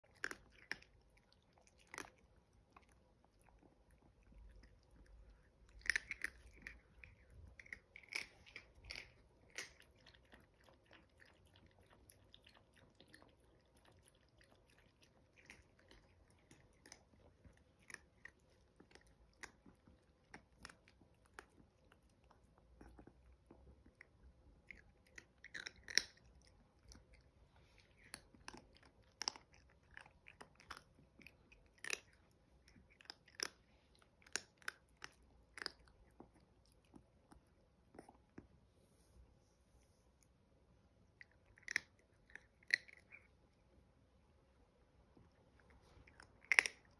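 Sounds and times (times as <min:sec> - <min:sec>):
puppies crunching kibble: 0:00.0 - 0:38.5, 0:41.1 - 0:43.6, 0:45.2 - 0:46.9.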